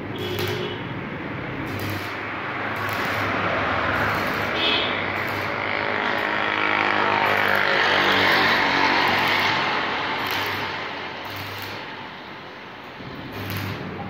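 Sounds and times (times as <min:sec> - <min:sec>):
arc welding sizzling crackle: 0:00.1 - 0:14.0.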